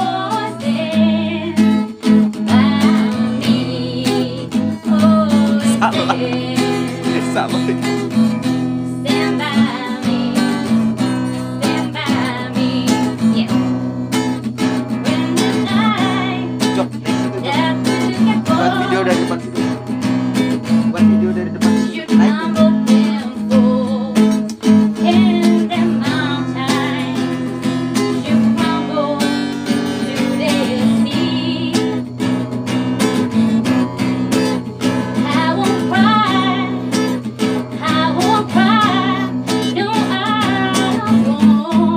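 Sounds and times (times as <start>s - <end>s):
woman singing: 0.0s - 19.5s, 21.8s - 32.2s, 34.3s - 41.9s
strummed acoustic guitar: 0.0s - 41.9s.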